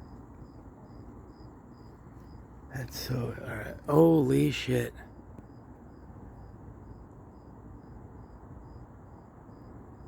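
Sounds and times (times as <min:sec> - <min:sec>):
insects trilling: 0:00.0 - 0:10.0
lower insect chirp: 0:00.0 - 0:10.0.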